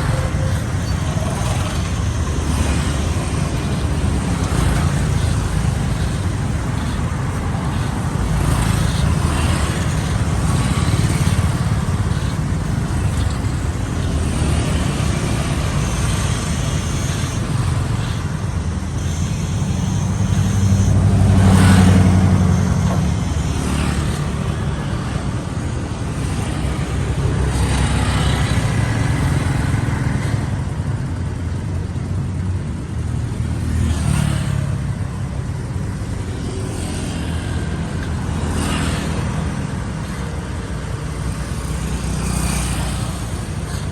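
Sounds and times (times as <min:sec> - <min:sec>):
rumble of traffic: 0:00.0 - 0:43.9
vehicles passing close by: 0:00.0 - 0:43.9.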